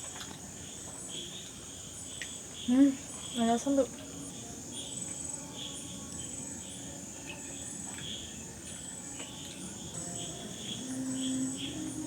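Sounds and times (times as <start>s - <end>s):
crickets trilling: 0.0s - 12.0s
low cricket chirp: 0.0s - 12.0s.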